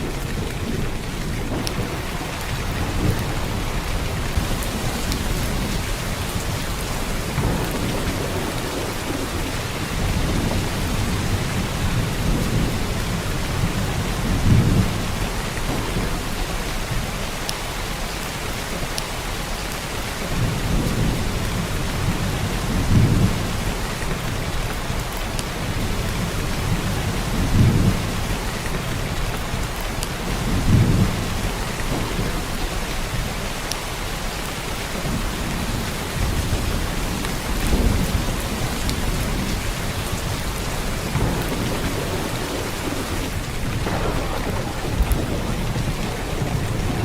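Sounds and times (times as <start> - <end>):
heavy rain pouring: 0.0 - 47.0
raindrop ticks: 0.0 - 47.0.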